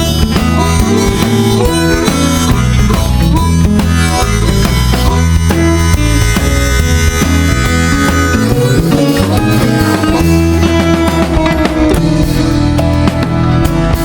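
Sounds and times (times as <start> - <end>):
upbeat country instrumental music: 0.0 - 14.0.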